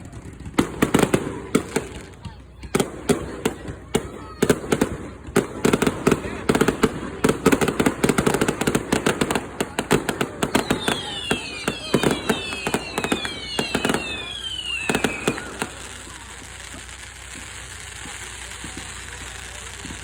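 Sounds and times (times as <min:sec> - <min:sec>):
fireworks crackling: 0:00.0 - 0:20.0
whistling fireworks: 0:00.0 - 0:20.0.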